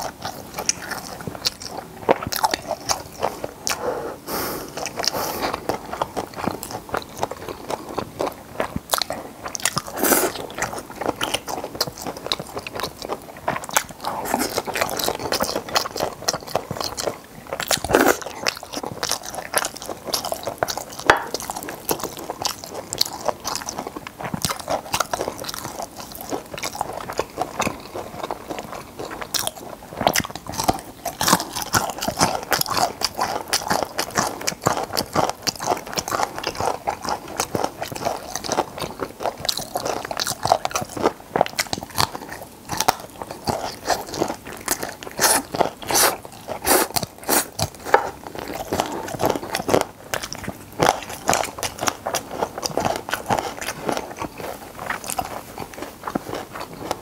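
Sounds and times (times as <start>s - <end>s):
crunchy chewing clicks: 0.0s - 3.9s, 4.7s - 57.0s
wet mouth sounds: 0.0s - 27.3s, 30.1s - 57.0s.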